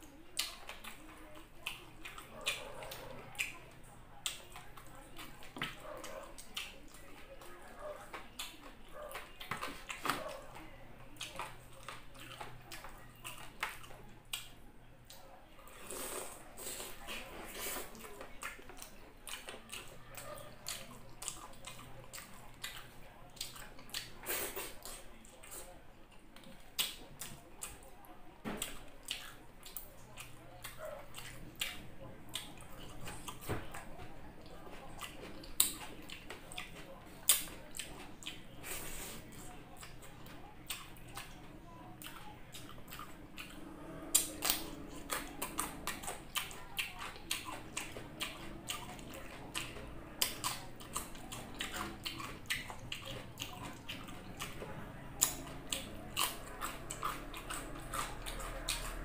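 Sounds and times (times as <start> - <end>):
wet chewing: 0.0 - 59.0
lip smacking: 0.1 - 25.7, 28.6 - 59.0.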